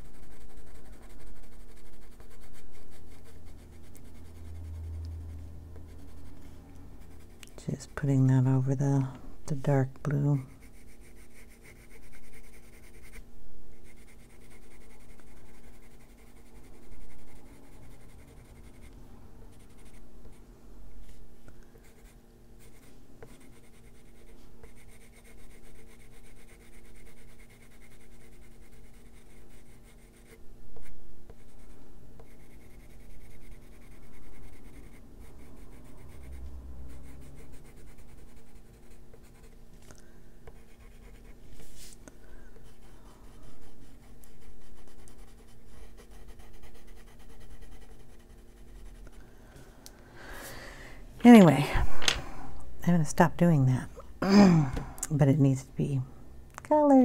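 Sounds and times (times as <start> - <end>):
pencil scratching on paper: 0.0 - 9.0, 9.6 - 20.4, 21.8 - 39.6, 40.4 - 42.0, 42.6 - 49.2.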